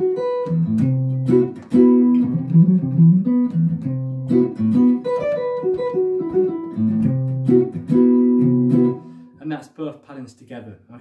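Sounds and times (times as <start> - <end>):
clean electric guitar jazz line: 0.0 - 9.3.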